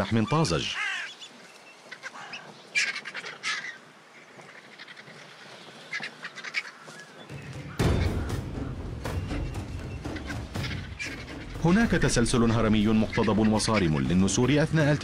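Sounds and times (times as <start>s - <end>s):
vultures squawking and cackling: 0.0s - 15.0s.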